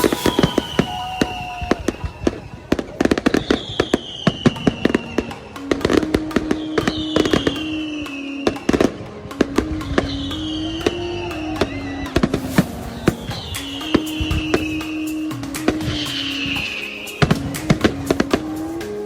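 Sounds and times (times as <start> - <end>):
fireworks bangs and crackles: 0.0 - 19.0
whistling fireworks: 0.0 - 19.0.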